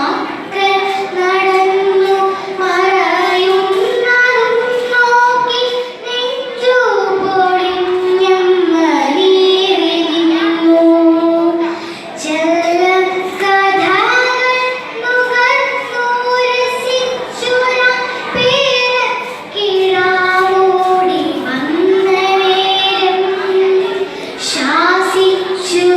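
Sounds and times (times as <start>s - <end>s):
child chanting verse: 0.0s - 25.9s.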